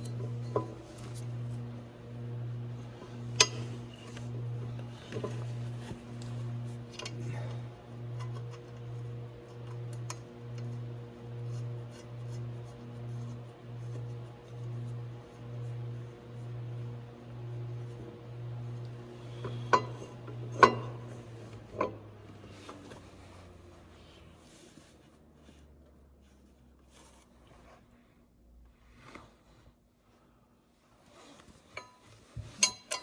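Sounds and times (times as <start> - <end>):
steady low hum: 0.0 - 26.6.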